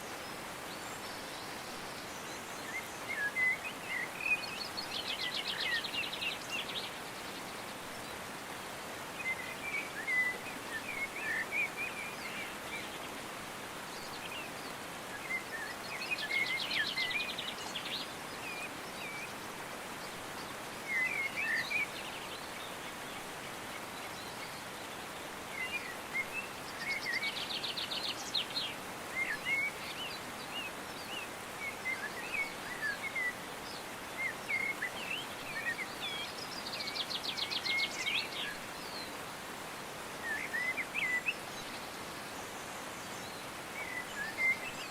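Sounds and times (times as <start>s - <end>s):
steady outdoor hiss: 0.0s - 44.9s.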